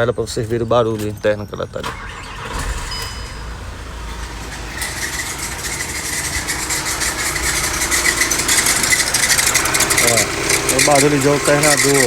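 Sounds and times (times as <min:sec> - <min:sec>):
diesel engine idling: 0:01.8 - 0:12.0.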